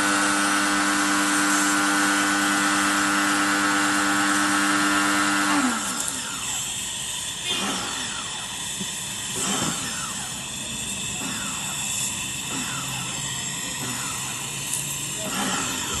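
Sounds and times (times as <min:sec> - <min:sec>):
power tool motor winding down: 0:00.0 - 0:16.0.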